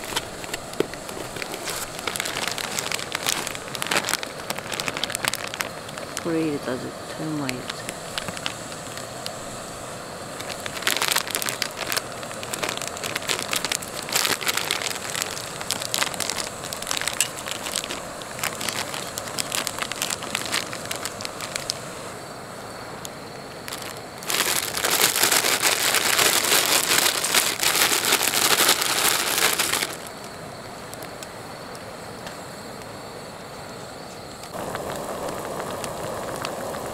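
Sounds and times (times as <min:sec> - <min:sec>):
food packets crinkling: 0:00.0 - 0:09.3, 0:10.3 - 0:22.0, 0:23.6 - 0:31.2, 0:34.5 - 0:36.9.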